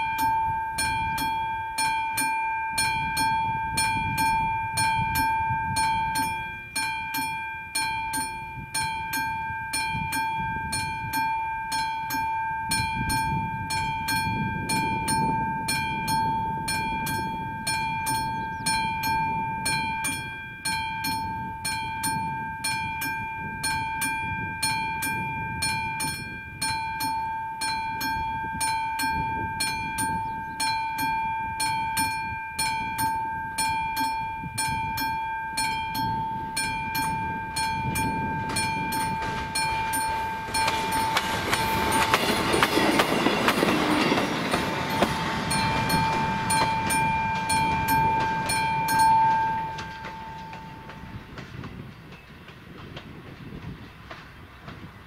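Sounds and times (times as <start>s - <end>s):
level crossing bell ringing: 0.0s - 51.3s
passenger train passing: 0.0s - 55.0s.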